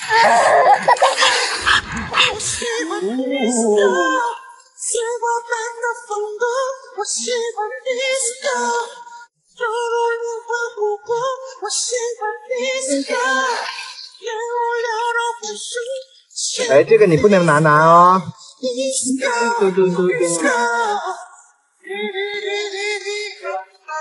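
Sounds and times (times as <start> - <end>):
high-pitched voice singing: 2.1 - 9.0, 9.6 - 21.3, 21.9 - 24.0.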